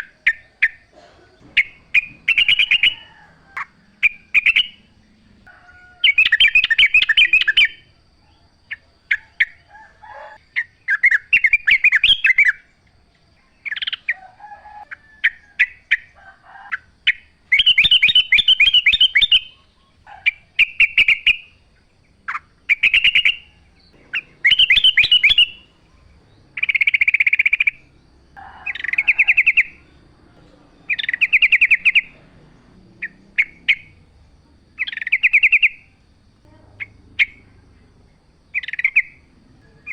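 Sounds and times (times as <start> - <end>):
bird rapid chattering song: 0.0 - 5.2, 6.0 - 7.9, 10.4 - 12.8, 13.5 - 14.2, 14.9 - 39.9
faint low bird calls: 0.0 - 39.9.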